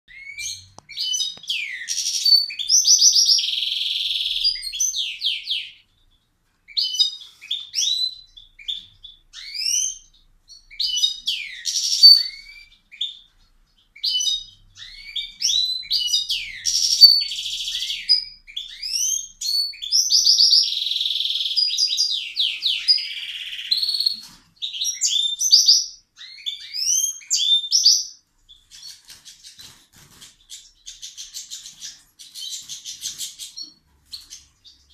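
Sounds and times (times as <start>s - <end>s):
songbird singing: 0.1s - 29.7s.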